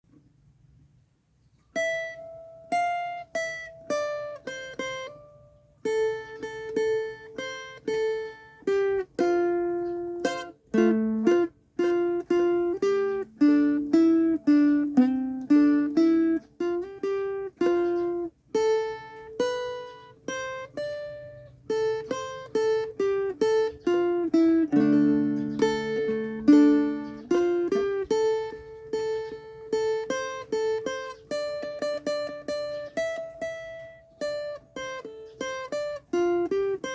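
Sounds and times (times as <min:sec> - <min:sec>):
plucked string melody: 0:01.7 - 0:36.9.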